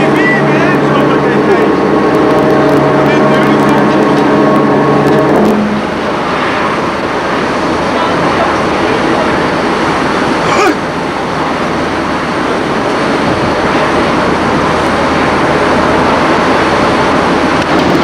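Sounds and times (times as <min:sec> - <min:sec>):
loud rushing noise: 0:00.0 - 0:18.0.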